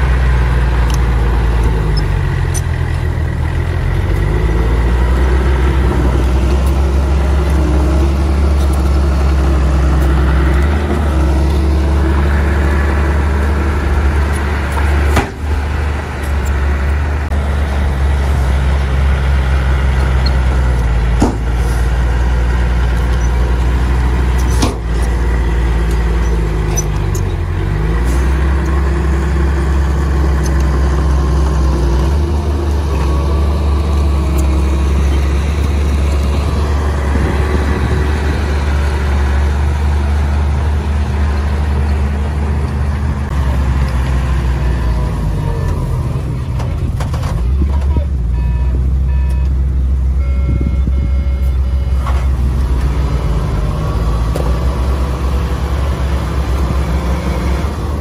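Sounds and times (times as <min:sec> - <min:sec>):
bulldozer diesel engines under load: 0:00.0 - 0:58.0.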